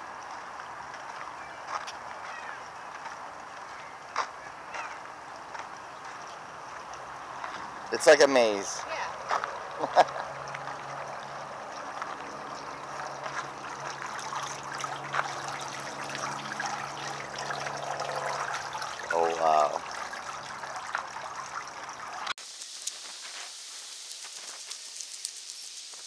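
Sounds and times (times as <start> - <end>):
fountain water trickling and bubbling: 0.0 - 23.0.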